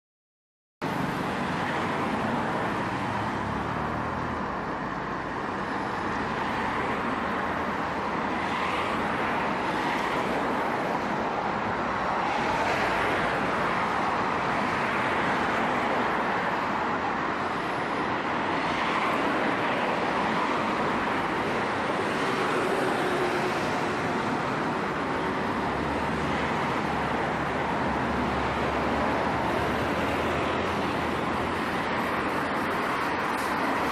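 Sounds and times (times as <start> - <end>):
cars passing: 0.8 - 33.9.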